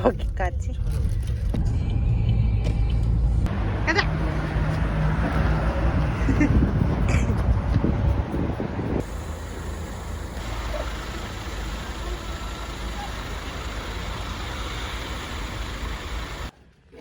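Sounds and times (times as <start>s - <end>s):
car road noise and engine hum: 0.0s - 16.5s.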